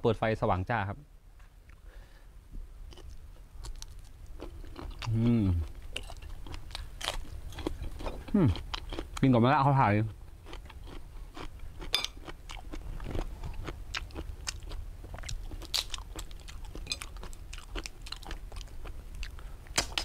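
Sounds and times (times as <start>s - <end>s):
chewing and crunching: 2.9s - 19.4s.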